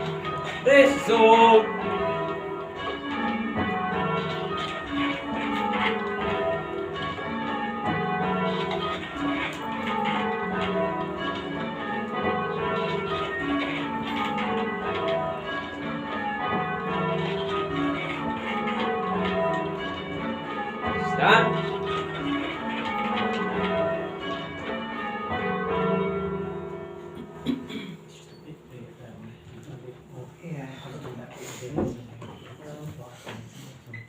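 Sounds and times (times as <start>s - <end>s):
church bells change ringing: 0.0s - 31.2s.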